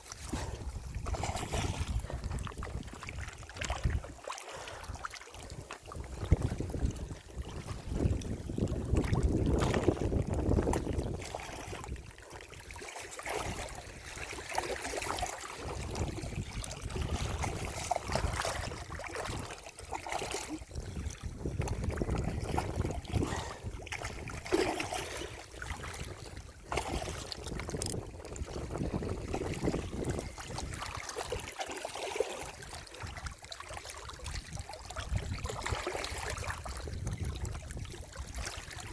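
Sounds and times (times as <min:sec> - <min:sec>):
wind buffeting microphone: 0:00.0 - 0:04.2, 0:05.5 - 0:12.2, 0:15.5 - 0:31.5, 0:34.2 - 0:38.9
water lapping and trickling: 0:00.0 - 0:38.9.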